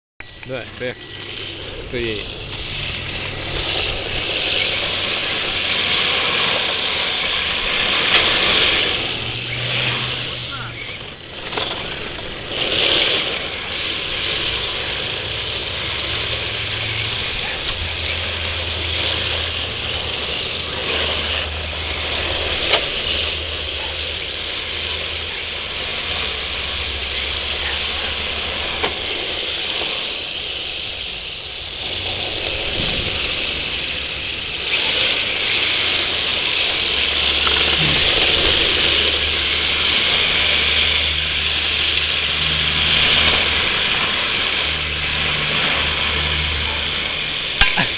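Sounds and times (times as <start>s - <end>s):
rc cars hissing: 0.2s - 47.9s.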